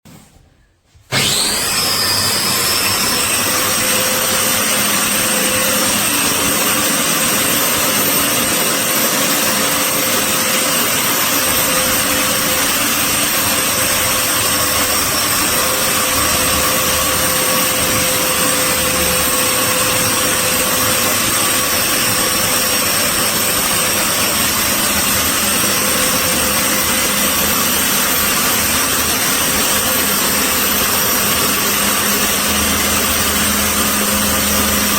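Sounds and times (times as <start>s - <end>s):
drywall sander running: 1.1s - 34.9s.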